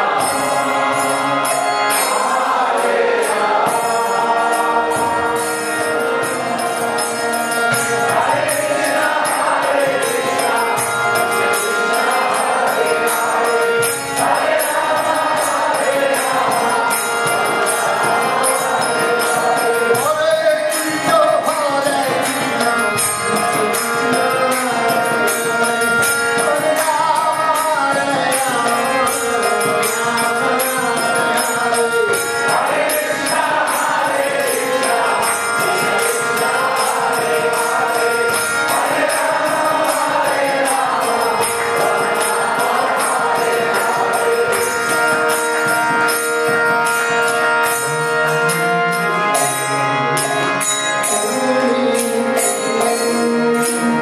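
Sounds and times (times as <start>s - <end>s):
people chanting: 0.0s - 46.2s
harmonium tones: 0.0s - 54.0s.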